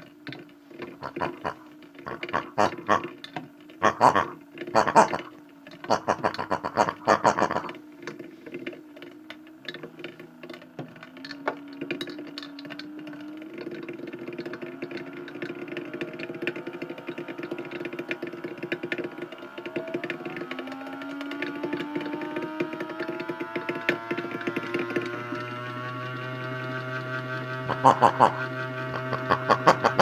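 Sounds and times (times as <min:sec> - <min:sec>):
fast patter of small clicks: 0:00.0 - 0:30.0
washing machine motor hum: 0:00.0 - 0:30.0.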